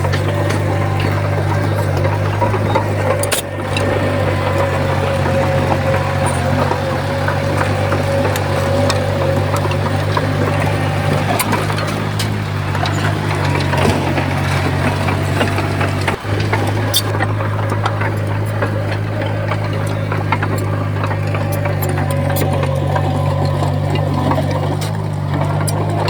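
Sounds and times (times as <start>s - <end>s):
bulldozer diesel engine running: 0.0s - 26.0s
sharp clicks and clanks: 0.0s - 26.0s.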